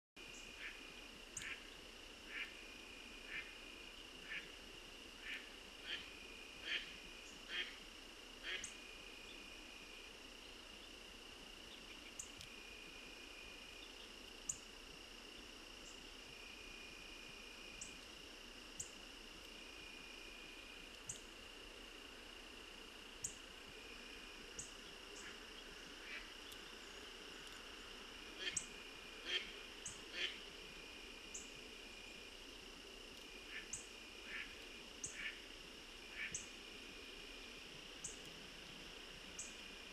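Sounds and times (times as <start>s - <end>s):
crickets and insects trilling: 0.2s - 39.9s.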